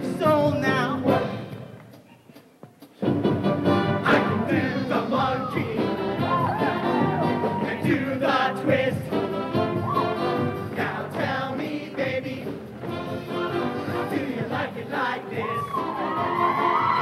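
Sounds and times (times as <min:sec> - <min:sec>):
live band with horns: 0:00.0 - 0:11.1, 0:12.4 - 0:17.0.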